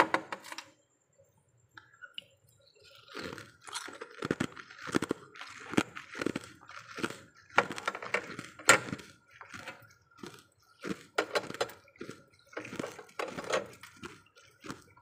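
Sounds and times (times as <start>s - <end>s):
melting ice crunching and squishing: 2.7s - 15.0s.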